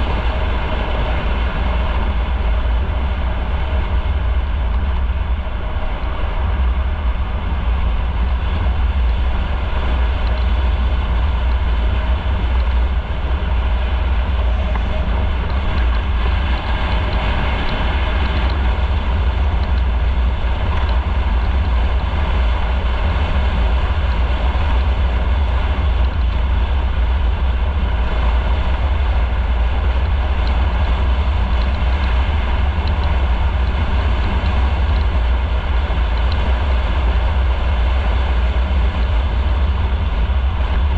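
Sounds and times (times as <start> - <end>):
motorcycle engine drone: 0.0 - 40.9
wind and road rush: 0.0 - 40.9.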